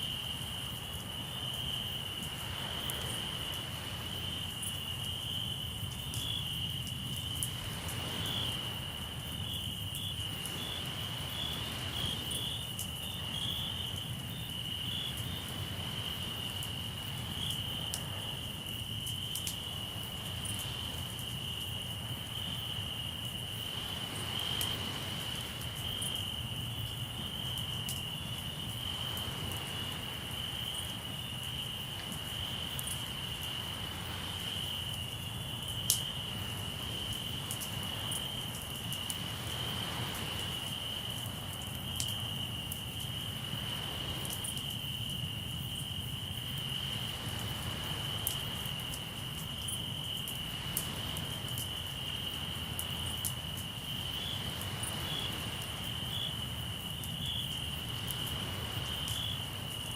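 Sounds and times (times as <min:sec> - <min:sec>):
campfire crackling: 0:00.0 - 0:59.9
crickets trilling: 0:00.0 - 0:59.9.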